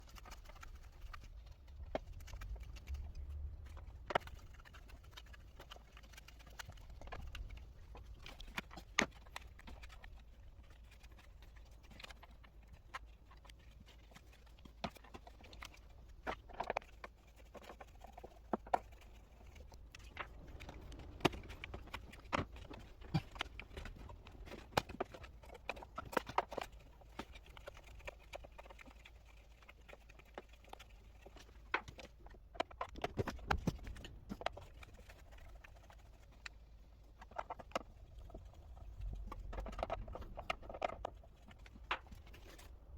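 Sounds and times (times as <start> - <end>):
clicks and knocks of hands working: 0.0 - 42.9.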